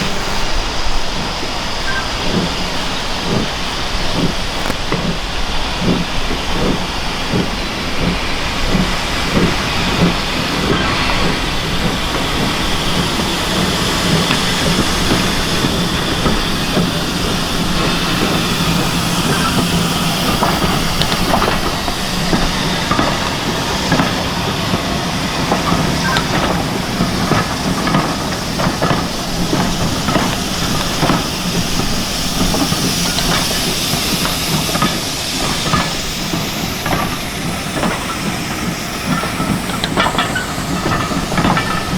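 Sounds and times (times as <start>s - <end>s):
hiss of steam: 0.0s - 41.9s
sharp clicks and rattles: 0.0s - 41.9s
train rumble: 0.0s - 41.9s.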